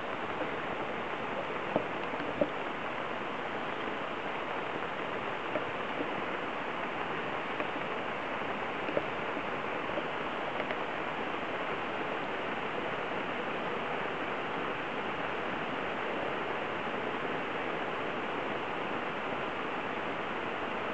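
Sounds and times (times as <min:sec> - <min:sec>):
heavy rain on trees and lawn: 0:00.0 - 0:20.9.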